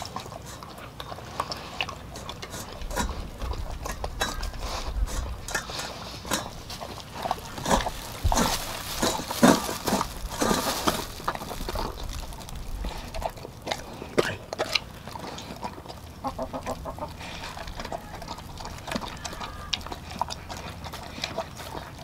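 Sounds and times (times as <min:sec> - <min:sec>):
dog chewing and lapping meat: 0:00.0 - 0:22.0.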